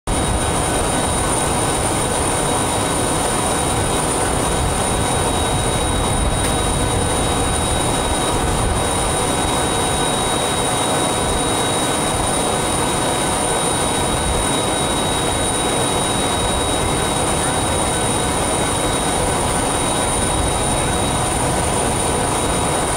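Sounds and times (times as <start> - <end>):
high-pitched turbine whine: 0.1 - 22.9
jet turbine roar: 0.1 - 22.9.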